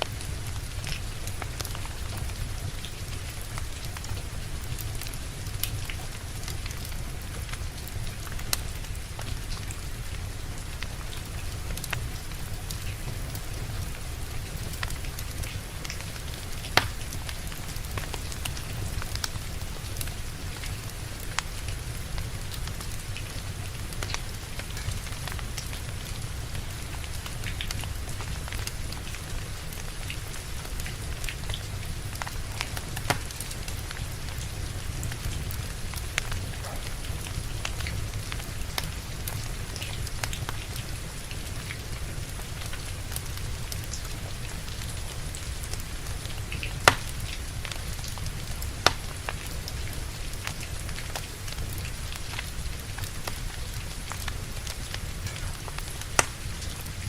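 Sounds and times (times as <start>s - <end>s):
steady rain: 0.0s - 57.0s
wood fire crackling: 0.0s - 57.0s.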